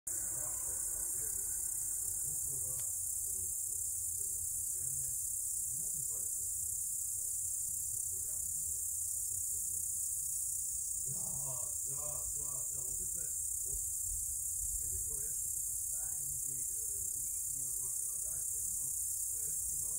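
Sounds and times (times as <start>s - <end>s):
insects trilling: 0.1s - 19.9s.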